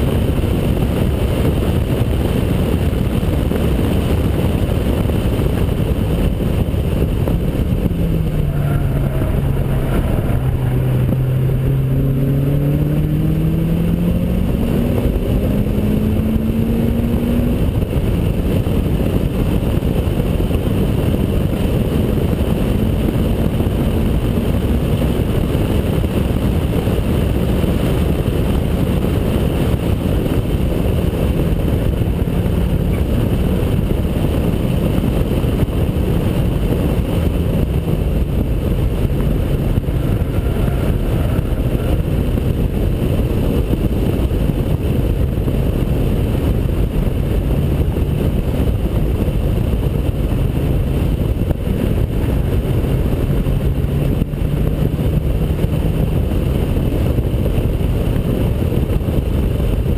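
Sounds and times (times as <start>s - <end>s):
car engine droning: 0.0s - 59.9s
wind rush: 0.0s - 59.9s.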